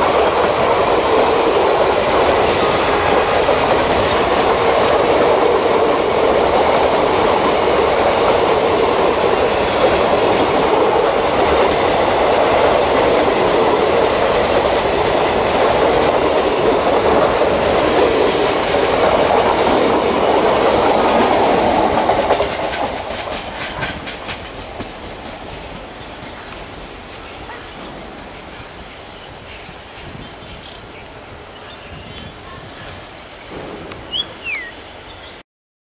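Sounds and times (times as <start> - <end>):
train wheels clattering on rails: 0.0 - 28.9, 33.5 - 34.4.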